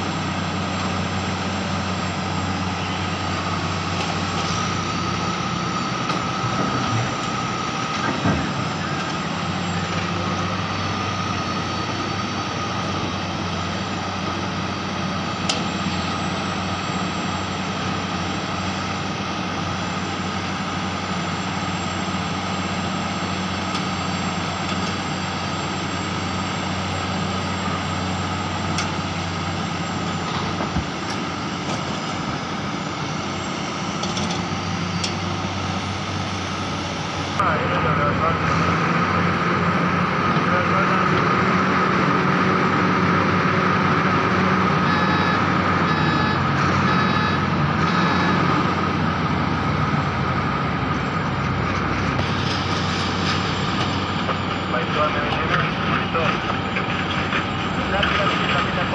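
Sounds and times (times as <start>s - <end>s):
diesel machinery engine drone: 0.0s - 58.9s.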